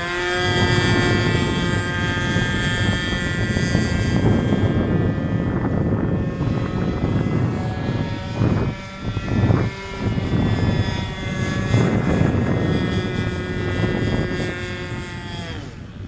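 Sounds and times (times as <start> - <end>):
model airplane motor droning: 0.0 - 16.0
wind noise on microphone: 0.0 - 16.0.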